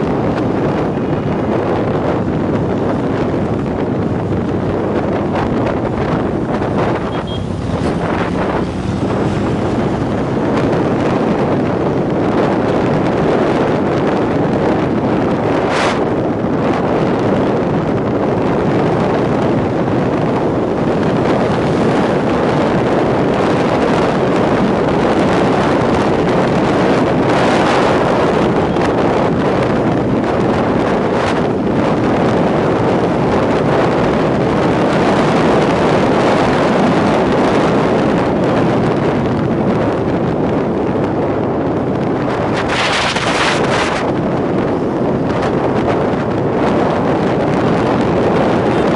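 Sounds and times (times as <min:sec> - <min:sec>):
motorcycle engine: 0:00.0 - 0:48.9
road noise: 0:00.0 - 0:48.9
wind rush on microphone: 0:00.0 - 0:48.9.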